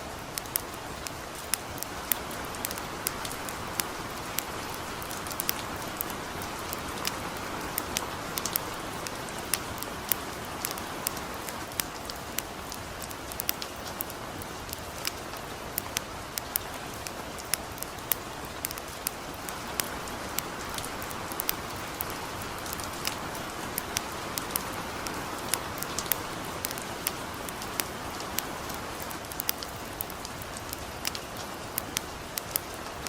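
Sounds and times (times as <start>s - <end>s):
campfire crackling: 0.0s - 33.0s
light rain hissing: 0.0s - 33.0s.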